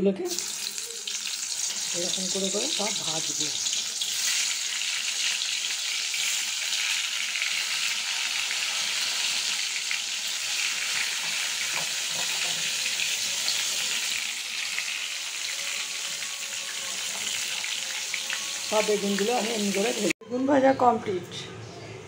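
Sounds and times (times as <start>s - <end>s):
vegetables frying in oil: 0.3s - 20.2s.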